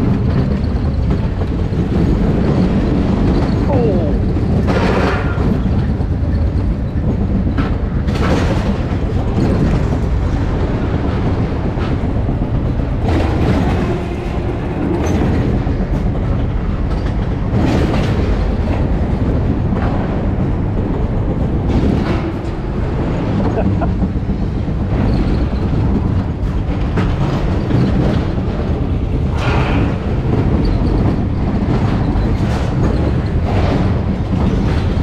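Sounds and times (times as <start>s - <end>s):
roller coaster wheels rumbling on rails: 0.0s - 35.0s.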